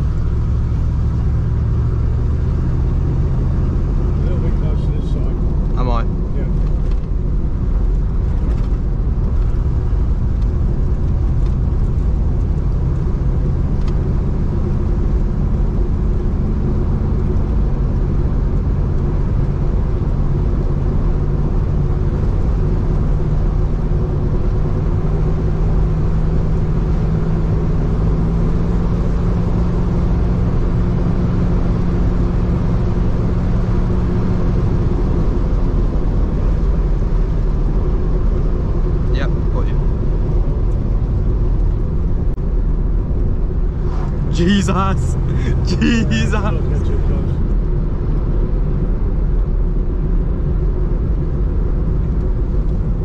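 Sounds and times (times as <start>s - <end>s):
car engine drone: 0.0s - 53.0s
road noise: 0.0s - 53.0s.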